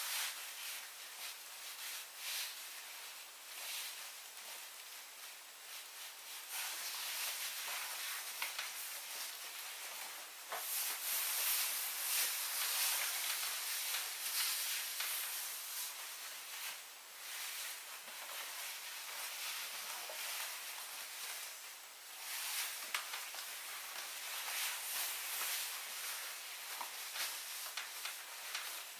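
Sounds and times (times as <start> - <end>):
pvc skirt rustling and swishing: 0.0 - 28.9.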